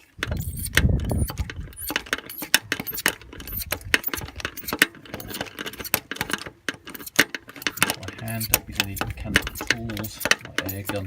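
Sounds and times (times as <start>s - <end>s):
metallic clicks of socket turning: 0.2s - 11.0s.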